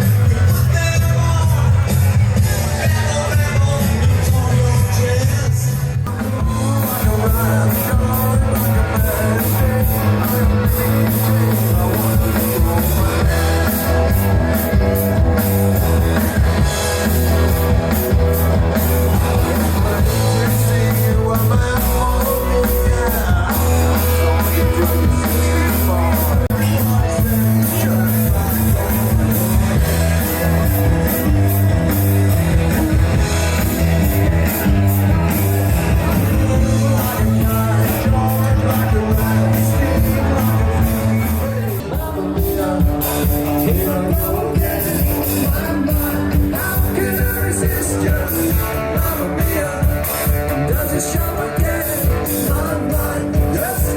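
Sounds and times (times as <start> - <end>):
live rock band through speakers: 0.0 - 53.9
person singing: 0.0 - 53.9.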